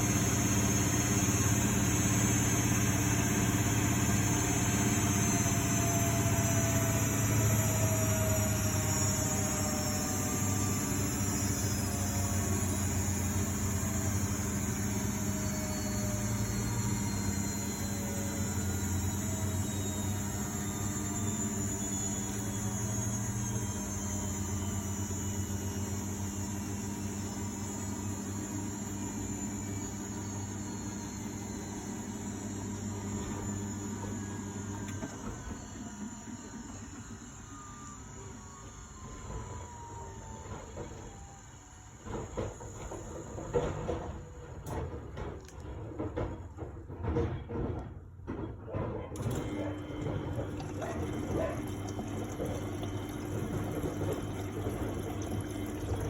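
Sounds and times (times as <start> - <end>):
washing machine spinning down: 0.0 - 56.0.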